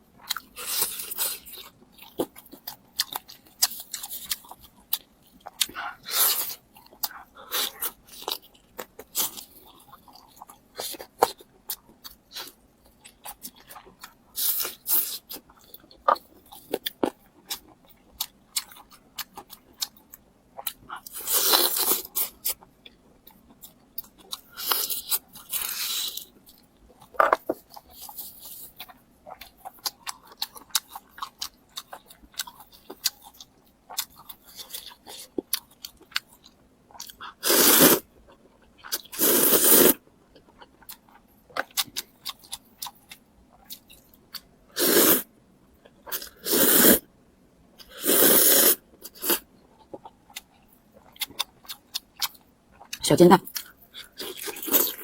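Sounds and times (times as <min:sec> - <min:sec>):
chewing: 0:00.2 - 0:37.4, 0:38.0 - 0:44.5, 0:49.0 - 0:55.0.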